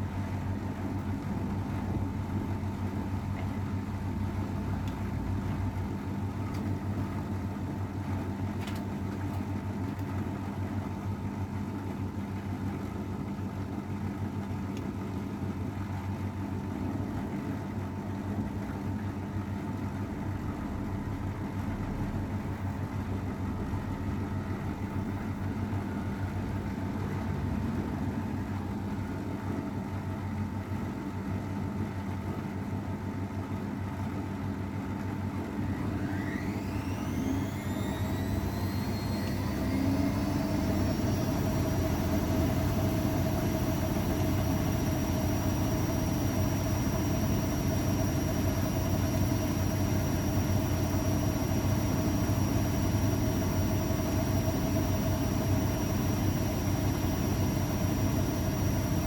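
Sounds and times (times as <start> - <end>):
washing machine humming and whining: 0.0 - 59.0.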